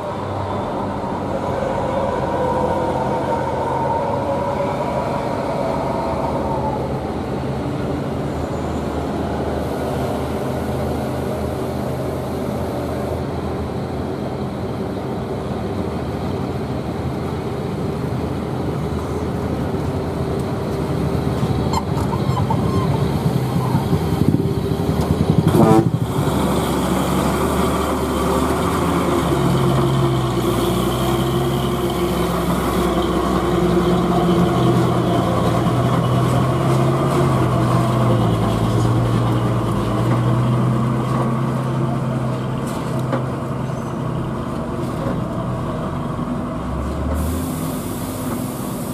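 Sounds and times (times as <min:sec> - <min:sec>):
diesel truck engine labouring uphill: 0:00.0 - 0:48.9.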